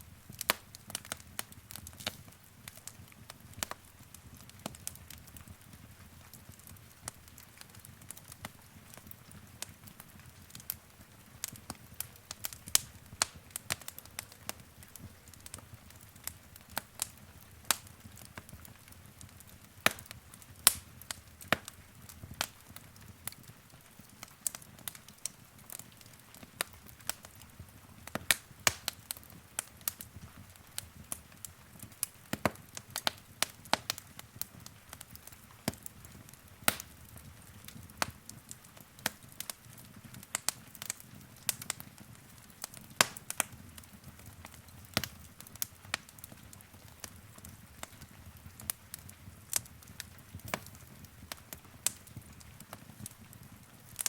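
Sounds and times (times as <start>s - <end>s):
low rumble of burning: 0.0s - 54.0s
wood fire crackling: 0.0s - 54.0s.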